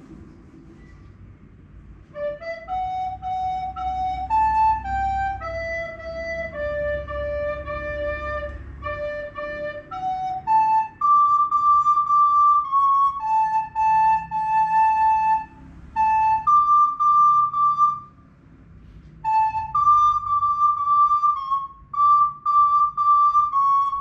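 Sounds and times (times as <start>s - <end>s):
recorder playing slow tune: 2.2s - 18.2s, 19.2s - 24.0s.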